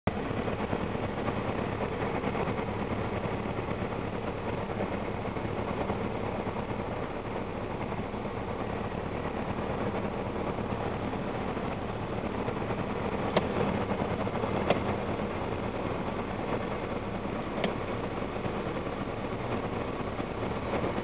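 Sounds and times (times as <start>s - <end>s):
propeller plane engine droning: 0.1s - 21.0s.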